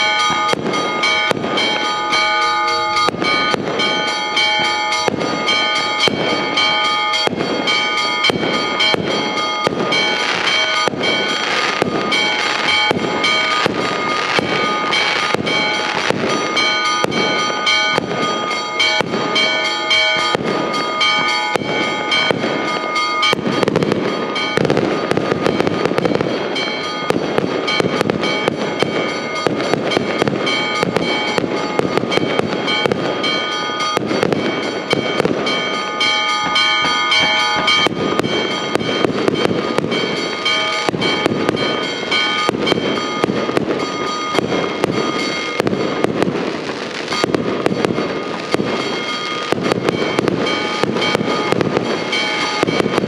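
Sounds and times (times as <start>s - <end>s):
church bells ringing: 0.0s - 53.0s
fireworks bangs and crackles: 0.0s - 53.0s.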